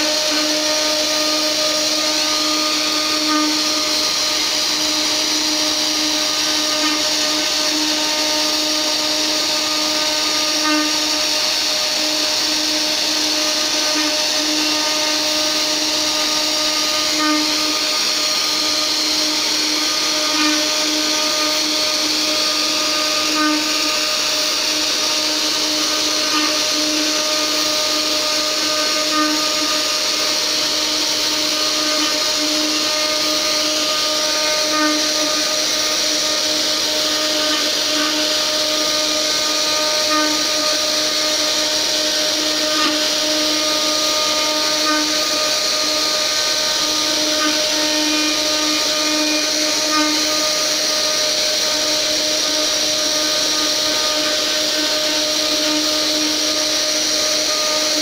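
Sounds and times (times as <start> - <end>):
router bit milling wood: 0.0 - 58.0
router spindle whining: 0.0 - 58.0.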